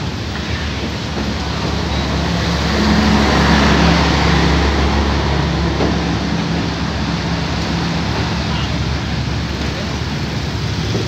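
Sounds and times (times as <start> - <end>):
low hum: 0.0 - 9.6
train wheels rumbling on rail: 0.0 - 11.0.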